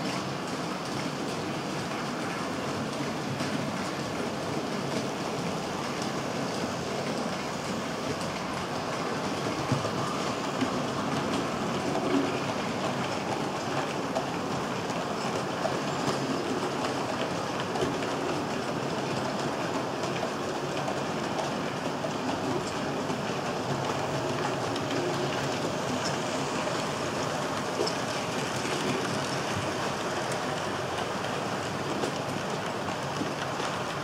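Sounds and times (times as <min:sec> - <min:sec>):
model train rolling rumble: 0:00.0 - 0:34.0.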